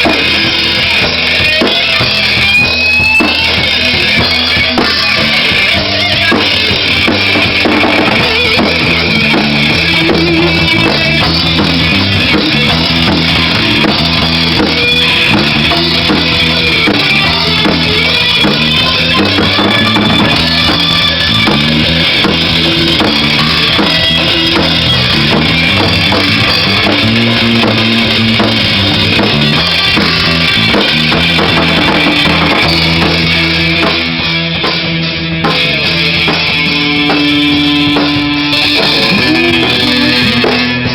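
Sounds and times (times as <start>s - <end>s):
bass drum: 0.0s - 40.9s
bass guitar: 0.0s - 40.9s
electric guitar: 0.0s - 40.9s.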